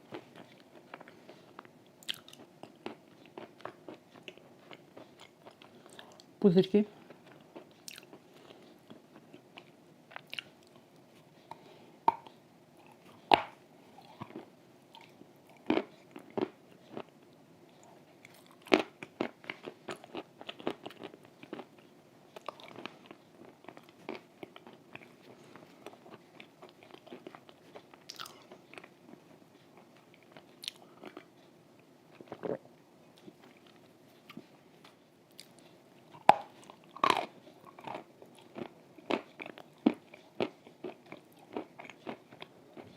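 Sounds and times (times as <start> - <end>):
crackling chewing: 0.0 - 6.4, 7.0 - 42.9.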